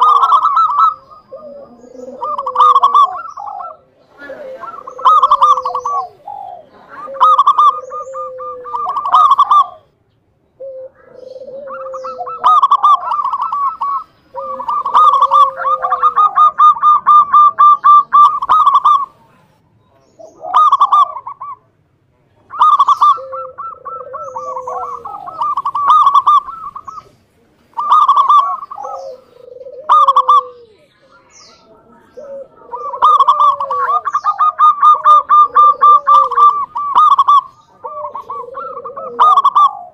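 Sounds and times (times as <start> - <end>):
dove cooing: 0.0 - 21.7, 22.3 - 39.9.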